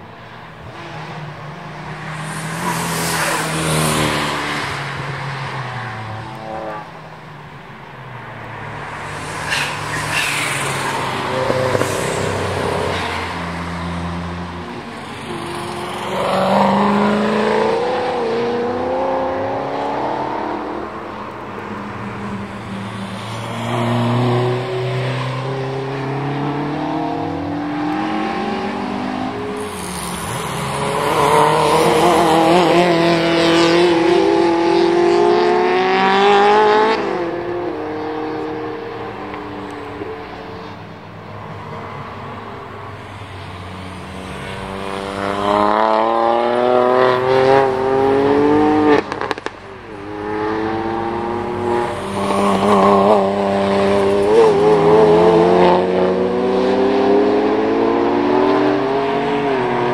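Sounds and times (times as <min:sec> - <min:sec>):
race cars passing at speed: 0:00.0 - 0:59.9.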